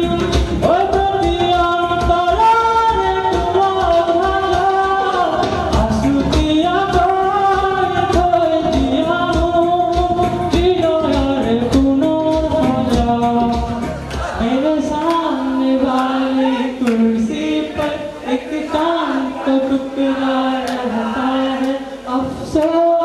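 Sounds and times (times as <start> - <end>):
backing music with steady beat: 0.0 - 23.0
man singing into microphone: 0.0 - 23.0.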